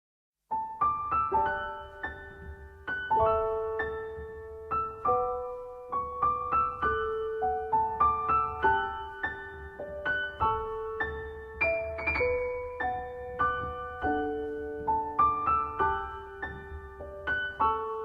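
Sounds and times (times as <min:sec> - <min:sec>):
gentle piano melody: 0:00.5 - 0:18.0.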